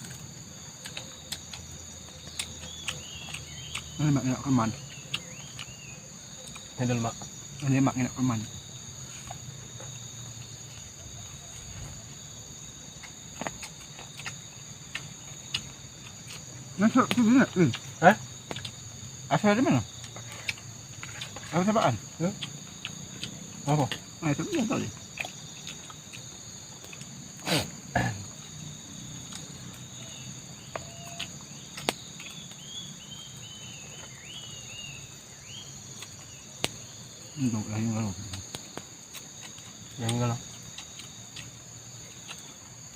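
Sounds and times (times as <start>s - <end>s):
insects shrilling: 0.0s - 42.9s.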